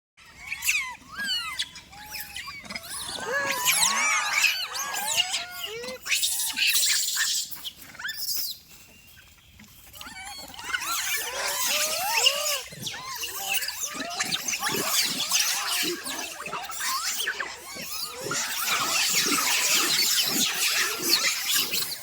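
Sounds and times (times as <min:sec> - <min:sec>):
monkeys squeaking and squealing: 0:00.2 - 0:08.6, 0:09.8 - 0:22.0.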